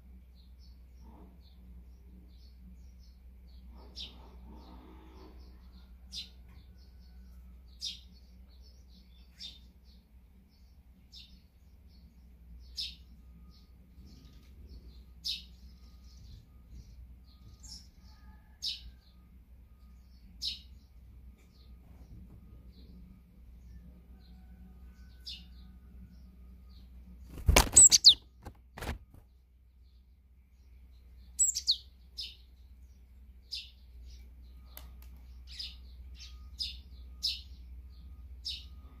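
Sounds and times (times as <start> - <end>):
faint low hum: 0.0 - 39.0
sparrows chirping: 0.0 - 39.0.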